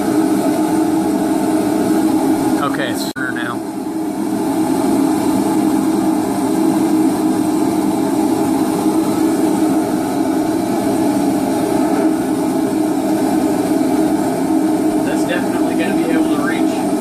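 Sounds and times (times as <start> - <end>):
propane forge burners roaring: 0.0 - 17.0.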